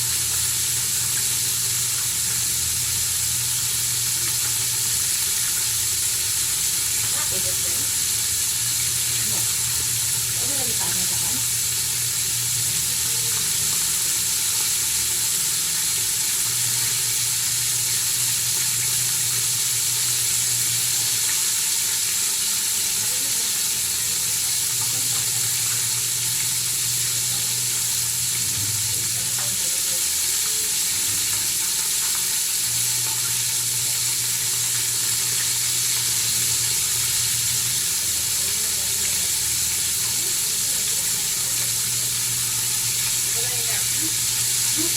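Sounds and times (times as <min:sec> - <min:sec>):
chicken deep-frying in oil: 0:00.0 - 0:44.9.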